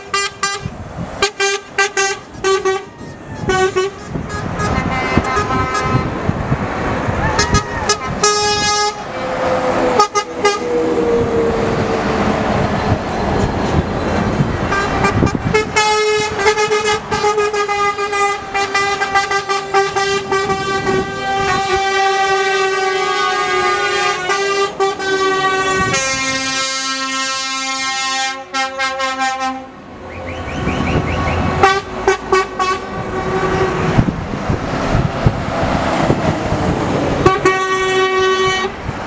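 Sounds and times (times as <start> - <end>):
long horn blast: 0.0 - 6.3, 7.2 - 12.1, 14.6 - 34.2, 37.2 - 38.8
lorries driving past: 0.0 - 39.0.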